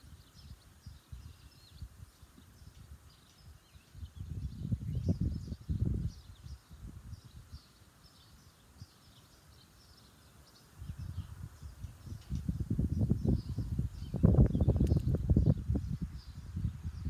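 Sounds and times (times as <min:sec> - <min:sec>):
wind gusting on microphone: 0:00.0 - 0:08.2, 0:10.8 - 0:17.0
small birds chirping: 0:00.0 - 0:17.0.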